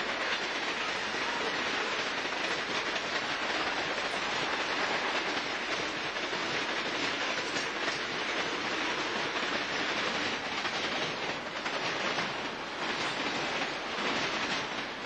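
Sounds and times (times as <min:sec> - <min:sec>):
freight train wheels rolling: 0:00.0 - 0:15.0.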